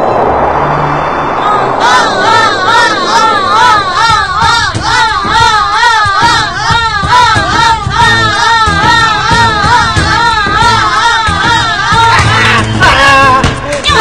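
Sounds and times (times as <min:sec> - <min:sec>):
high voice singing with vibrato: 0:01.4 - 0:14.0.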